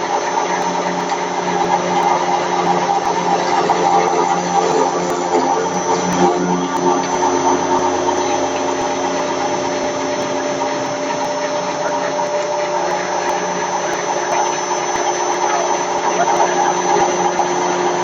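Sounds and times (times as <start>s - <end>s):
milling machine hum: 0.0s - 18.0s.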